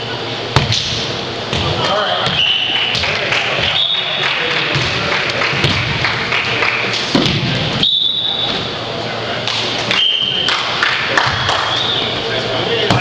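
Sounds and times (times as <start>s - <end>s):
players' voices echoing: 1.2s - 13.0s.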